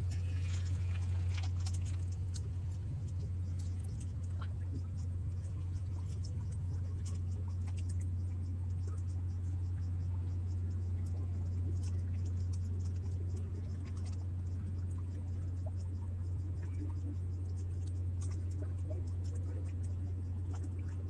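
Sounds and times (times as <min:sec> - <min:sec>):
light scratching and ticking: 0:00.0 - 0:21.0
steady low hum: 0:00.0 - 0:21.0.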